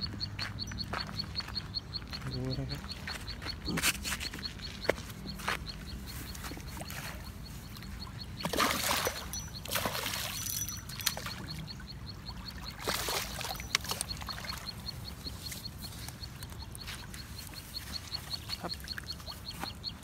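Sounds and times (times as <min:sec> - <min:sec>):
water splashing and sloshing: 0:02.8 - 0:20.0.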